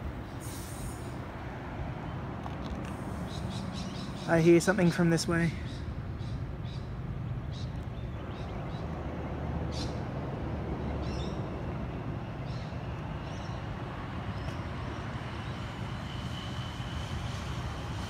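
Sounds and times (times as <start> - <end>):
distant vehicle rumble: 0.0 - 18.0.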